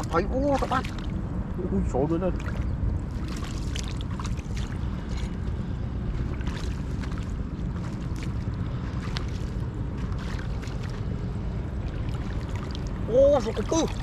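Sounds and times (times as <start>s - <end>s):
shallow water splashing: 0.0s - 1.6s, 2.2s - 14.0s.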